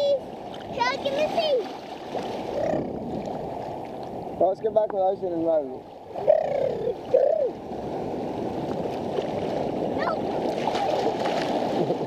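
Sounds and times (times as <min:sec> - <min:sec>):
sea water sloshing and splashing: 0:00.0 - 0:04.5, 0:05.3 - 0:12.0.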